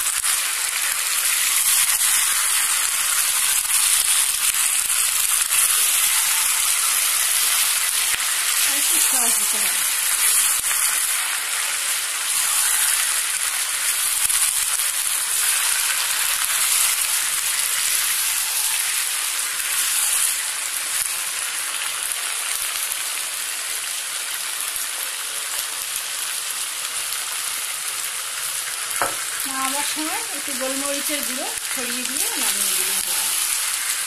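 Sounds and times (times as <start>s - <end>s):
food sizzling in a frying pan: 0.0s - 34.0s.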